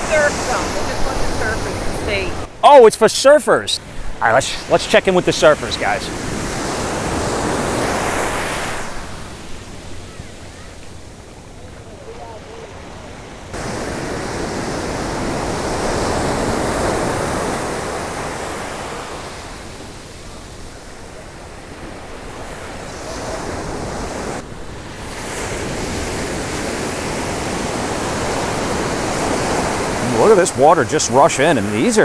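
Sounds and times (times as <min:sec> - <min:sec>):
ocean surf breaking on beach: 0:00.0 - 0:32.0.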